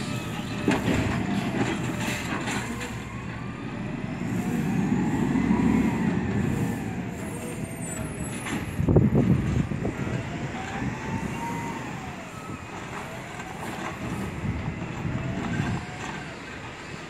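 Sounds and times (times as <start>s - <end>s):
truck diesel engine accelerating: 0.0s - 17.0s.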